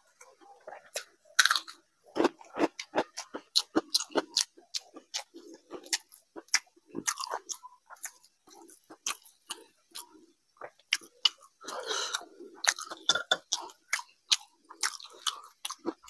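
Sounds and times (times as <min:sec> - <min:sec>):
close chewing with crunches: 0:00.0 - 0:16.0.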